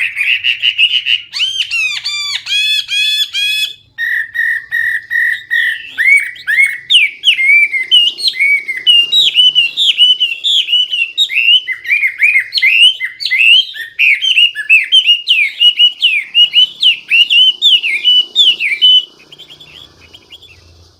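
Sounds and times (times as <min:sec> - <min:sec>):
bird singing whistled notes: 0:00.0 - 0:20.9.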